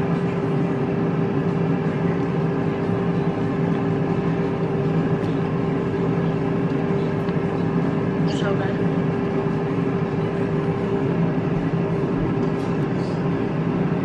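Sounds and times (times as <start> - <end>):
air fryer fan humming: 0.0 - 14.0.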